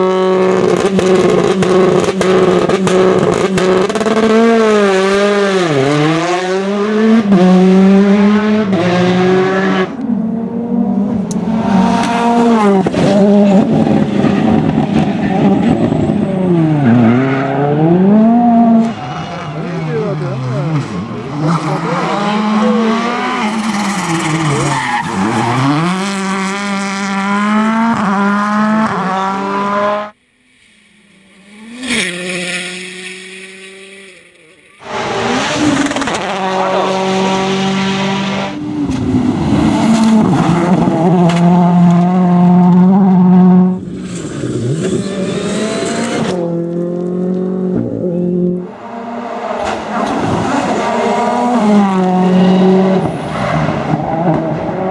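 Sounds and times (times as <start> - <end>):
distant car engine: 0.0 - 30.2, 34.8 - 54.9
rally car engines revving: 0.0 - 54.9.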